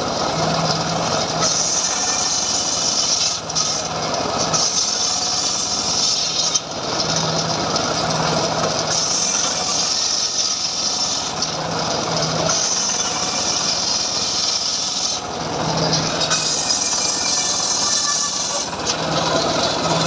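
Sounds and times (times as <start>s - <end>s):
circular saw cutting wood: 0.0s - 20.0s
engine low hum: 0.0s - 20.0s.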